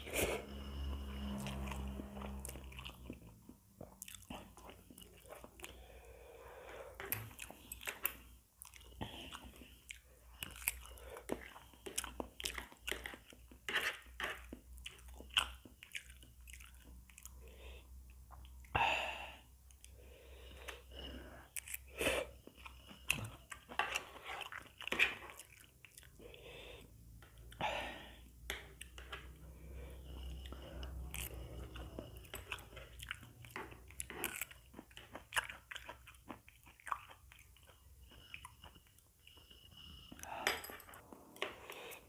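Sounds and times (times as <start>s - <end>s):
person chewing noodles: 0.0s - 18.8s, 19.6s - 42.0s.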